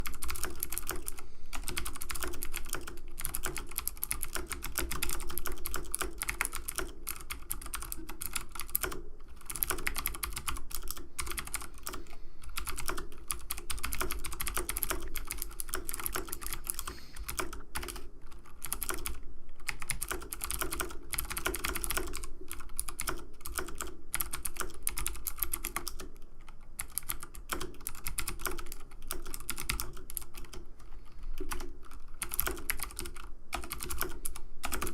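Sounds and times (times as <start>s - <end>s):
computer keyboard clicking: 0.0s - 34.9s.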